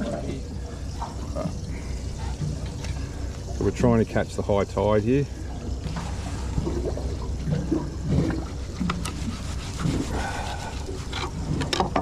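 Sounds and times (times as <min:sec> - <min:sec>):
steady low rumble: 0:00.0 - 0:11.8
water lapping around boat: 0:00.0 - 0:12.0.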